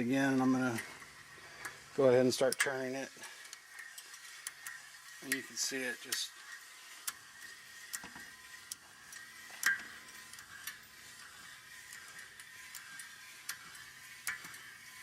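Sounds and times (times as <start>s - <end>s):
metallic clicks of cranked tool: 0.0s - 15.0s.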